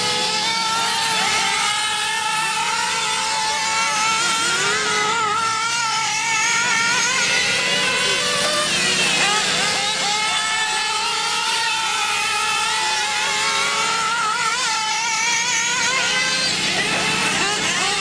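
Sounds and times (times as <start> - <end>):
rc car engines whining: 0.0 - 18.0.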